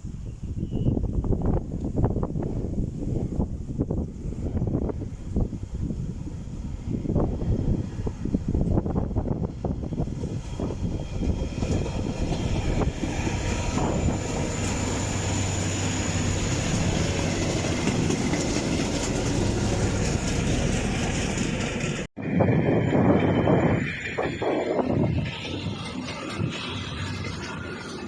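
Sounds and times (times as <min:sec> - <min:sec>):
diesel locomotive engine drone: 0:00.0 - 0:28.0
rumble of train wagons: 0:00.0 - 0:28.0.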